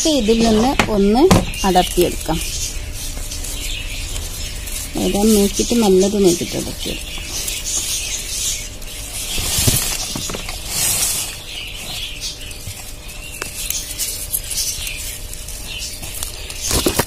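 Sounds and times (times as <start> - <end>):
leaves and roots rustling: 0.0 - 17.0.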